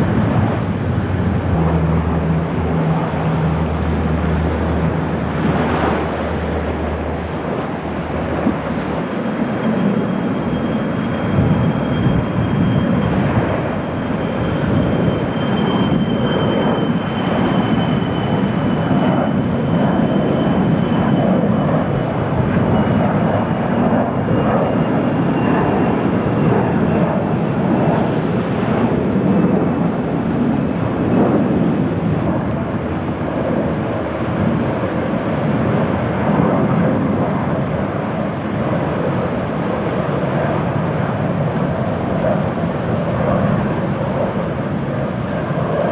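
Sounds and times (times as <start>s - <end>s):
high engine whine falling in pitch: 0.0s - 38.3s
jet airliner engines running: 0.0s - 45.9s.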